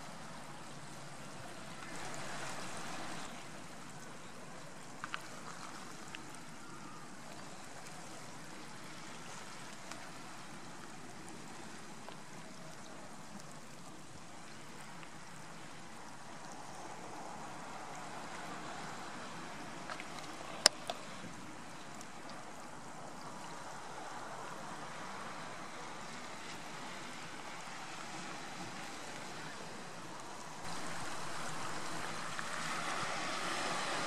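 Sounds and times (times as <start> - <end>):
seawater washing and trickling: 0.0 - 34.0.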